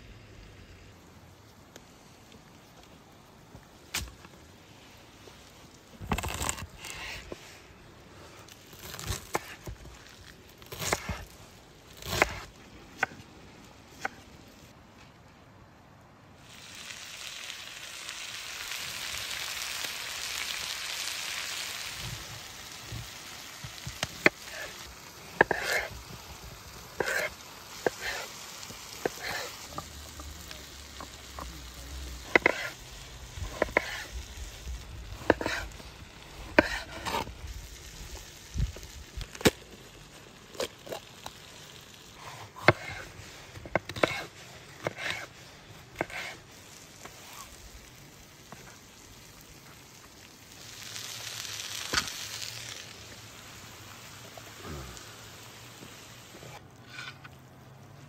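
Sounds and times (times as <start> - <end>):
steady hiss: 6.7 - 57.2.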